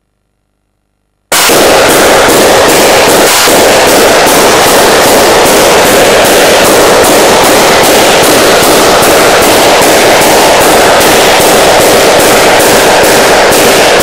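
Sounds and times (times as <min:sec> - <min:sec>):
rapid explosive bangs: 0:01.3 - 0:14.0.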